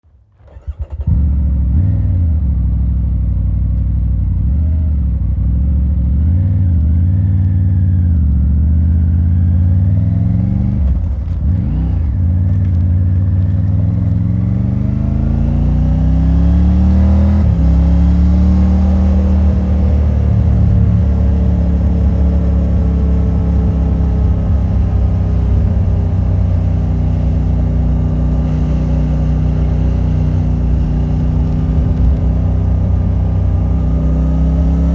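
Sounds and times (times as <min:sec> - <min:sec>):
motorcycle engine starting and running: 0:00.2 - 0:34.9.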